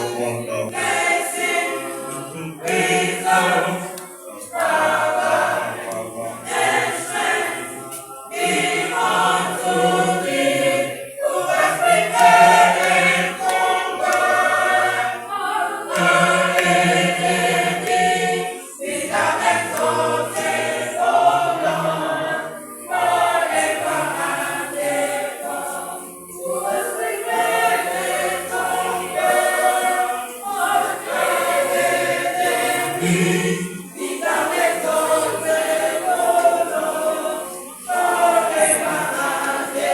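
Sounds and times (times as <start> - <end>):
choir singing a gospel hymn: 0.0 - 39.9.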